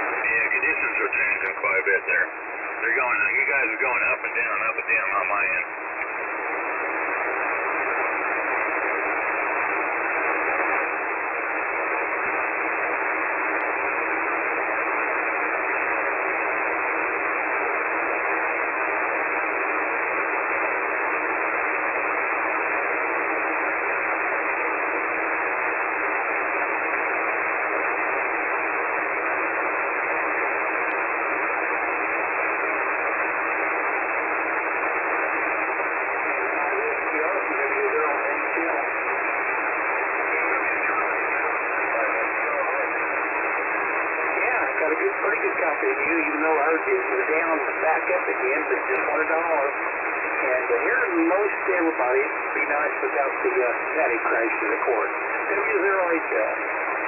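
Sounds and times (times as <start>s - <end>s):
radio static hiss: 0.0s - 57.0s.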